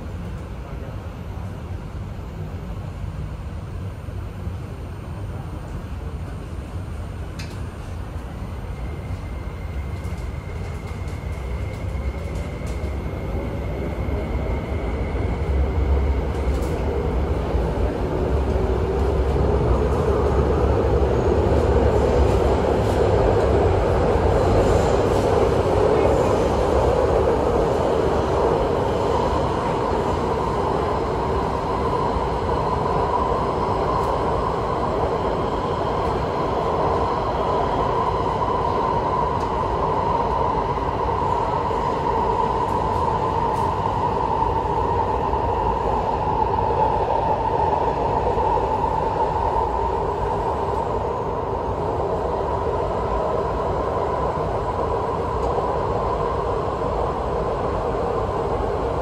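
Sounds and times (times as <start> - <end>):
wheels rumbling on rails: 5.3 - 59.0.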